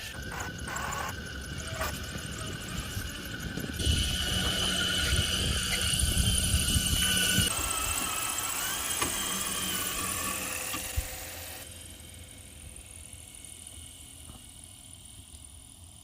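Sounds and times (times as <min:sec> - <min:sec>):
electric motor whining: 0:00.0 - 0:14.7.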